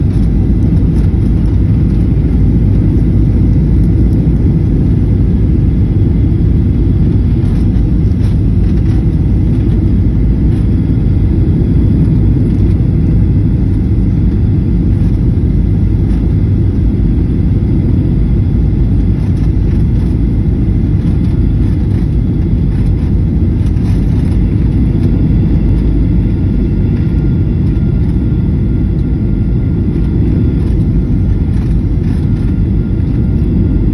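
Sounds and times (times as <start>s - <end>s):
airliner engine rumble: 0.0s - 33.9s
faint thin whine: 0.0s - 33.9s.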